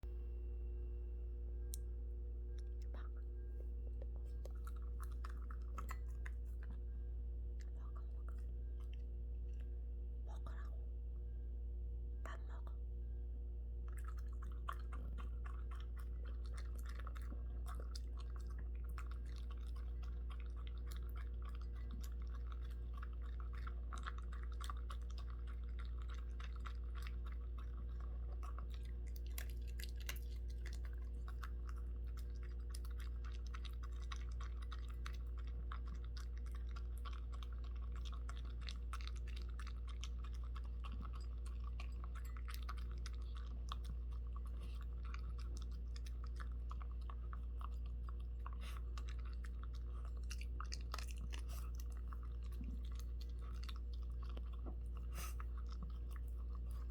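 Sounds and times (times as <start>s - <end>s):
low electrical hum: 0.0s - 56.9s
pet chewing food: 2.5s - 10.8s, 13.8s - 56.9s.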